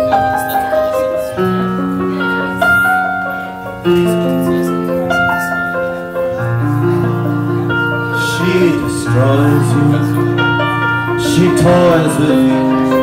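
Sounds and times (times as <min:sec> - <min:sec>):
electric piano chords and melody: 0:00.0 - 0:13.0.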